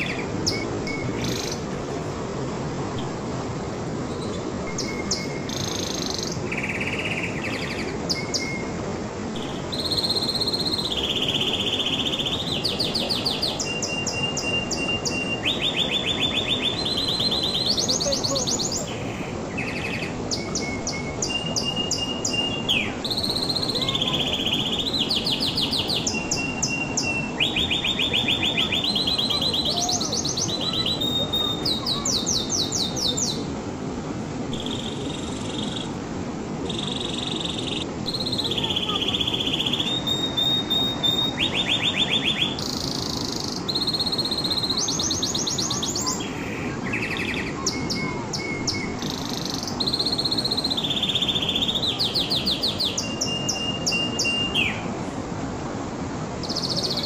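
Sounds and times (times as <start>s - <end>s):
canary singing trills: 0.0s - 1.6s, 4.1s - 8.7s, 9.4s - 33.4s, 36.7s - 54.8s
low background rush: 0.0s - 57.0s.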